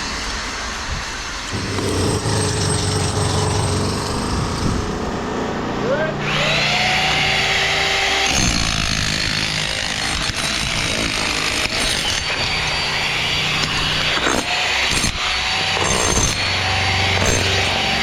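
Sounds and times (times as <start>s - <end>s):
power tool motor revving: 1.5s - 5.2s, 6.2s - 18.0s
machine noise: 1.5s - 8.6s, 10.1s - 18.0s.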